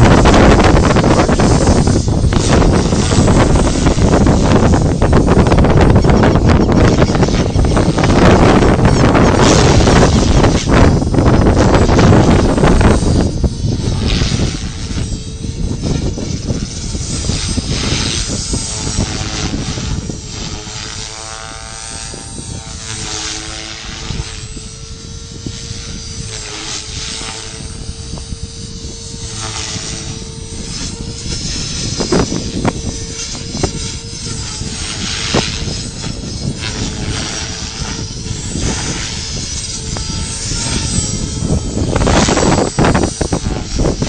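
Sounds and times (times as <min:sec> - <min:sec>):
model helicopter whine: 0:00.0 - 0:44.0
wind rumble on microphone: 0:00.0 - 0:44.0.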